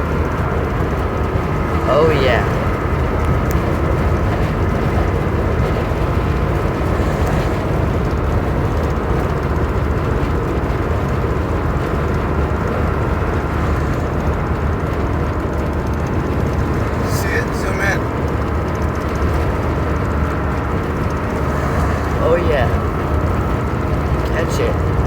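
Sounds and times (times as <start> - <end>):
car road rumble: 0.0 - 25.0.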